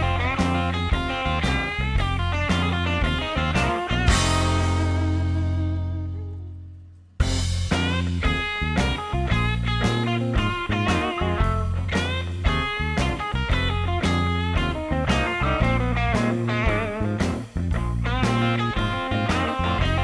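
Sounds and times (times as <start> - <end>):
electric guitar with bent notes: 0.0 - 20.0
steady bass line: 0.0 - 20.0.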